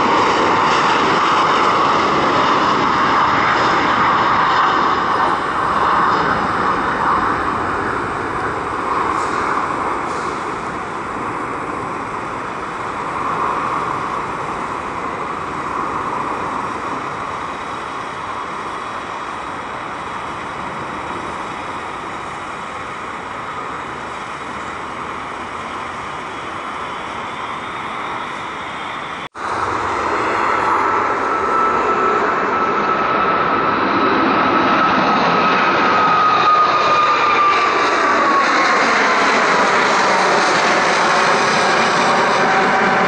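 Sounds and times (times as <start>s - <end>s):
jet engines at takeoff power: 0.0s - 43.0s
jet passing low overhead: 0.0s - 43.0s.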